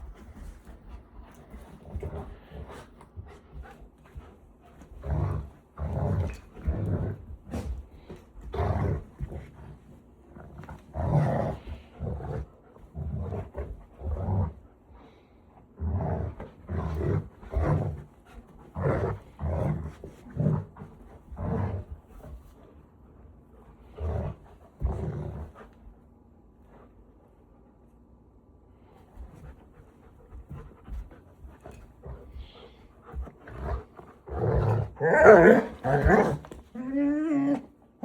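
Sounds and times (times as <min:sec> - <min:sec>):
dogs play-growling: 0:00.0 - 0:26.8, 0:28.9 - 0:38.0.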